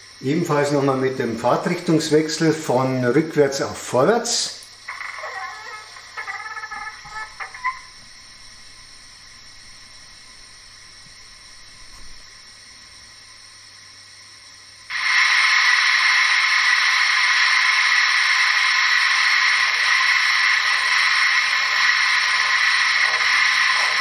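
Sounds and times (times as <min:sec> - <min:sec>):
steam hiss: 0:00.0 - 0:24.0.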